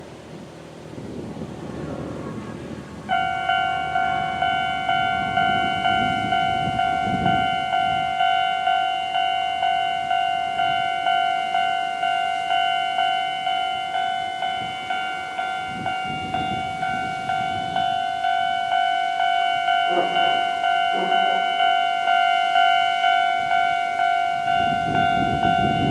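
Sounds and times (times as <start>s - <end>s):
level-crossing alarm ringing: 2.5s - 25.9s.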